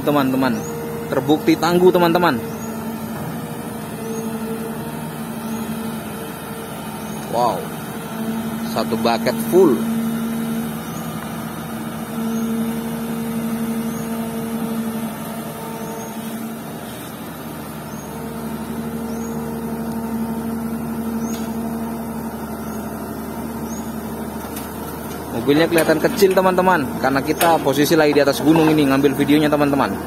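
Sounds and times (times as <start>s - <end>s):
excavator diesel engine working: 0.0s - 30.0s.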